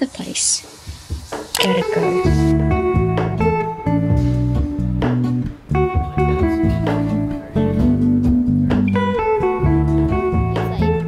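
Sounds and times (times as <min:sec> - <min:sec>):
guitar song with bass: 0:01.5 - 0:11.0.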